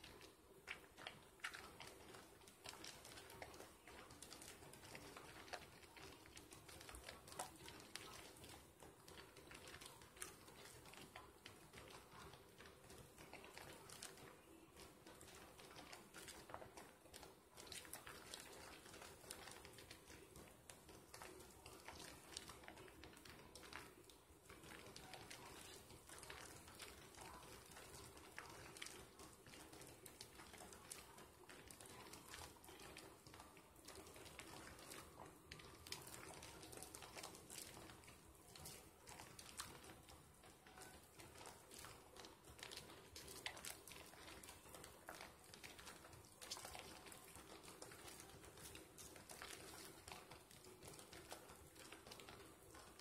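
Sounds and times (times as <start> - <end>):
soapy hands squishing lather: 0.0 - 53.0.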